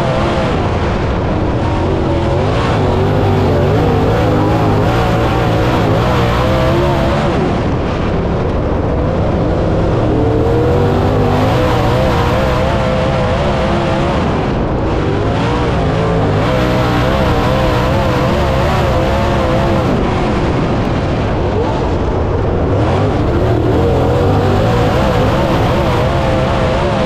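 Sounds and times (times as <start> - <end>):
race car engine running hard: 0.0 - 27.0.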